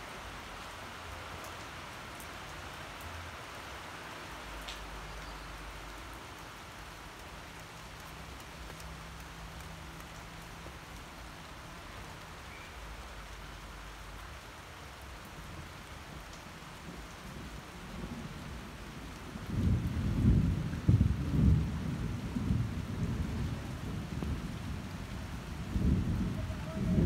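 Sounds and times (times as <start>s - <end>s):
rain on pavement: 0.0s - 27.0s.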